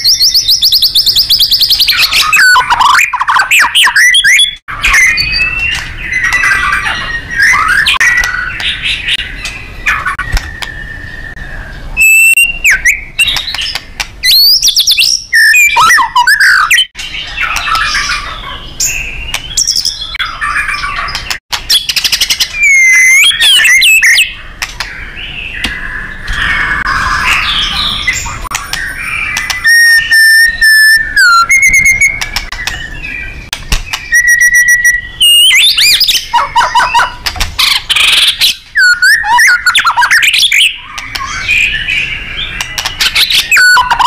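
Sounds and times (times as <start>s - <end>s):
bird singing whistled song: 0.0s - 44.0s.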